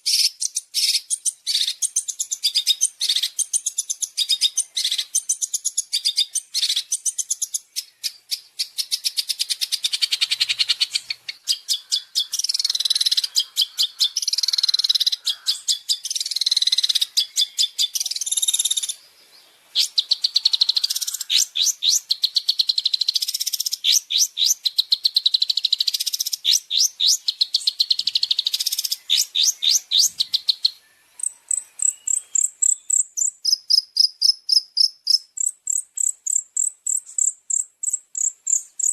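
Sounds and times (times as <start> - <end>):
bird song with harsh chirps: 0.0 - 38.9.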